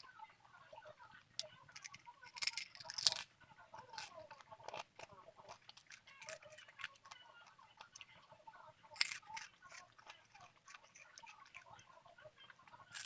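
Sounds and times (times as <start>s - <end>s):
chewing: 0.8s - 13.0s.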